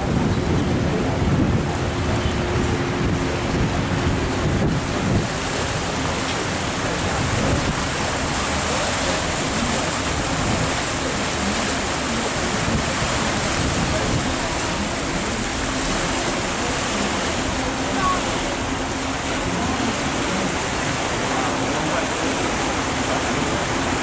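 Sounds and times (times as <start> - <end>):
churning water: 0.0 - 24.0.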